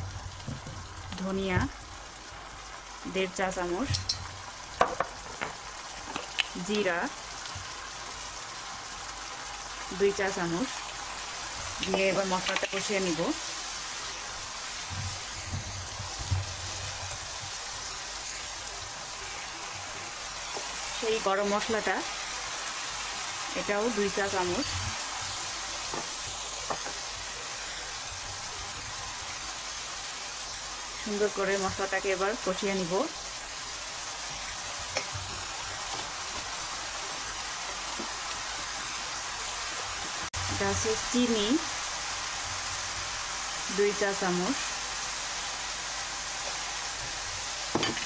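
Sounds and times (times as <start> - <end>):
spice paste sizzling in hot oil: 0.0 - 48.0.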